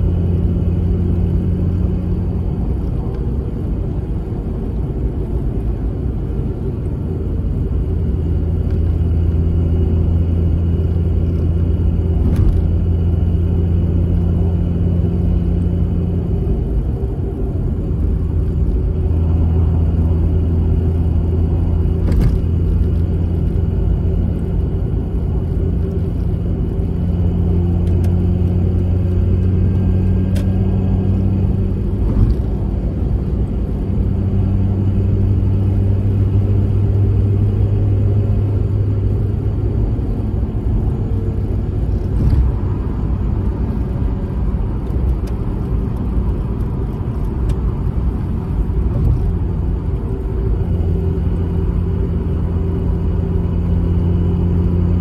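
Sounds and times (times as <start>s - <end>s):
car engine droning in cabin: 0.0s - 55.0s.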